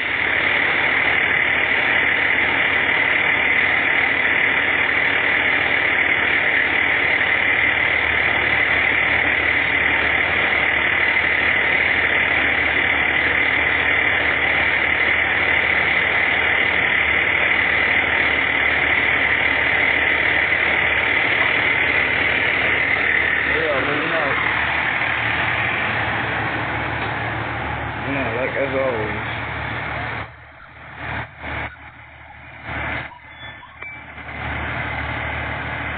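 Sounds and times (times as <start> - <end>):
vehicle engine idling: 0.0 - 35.9.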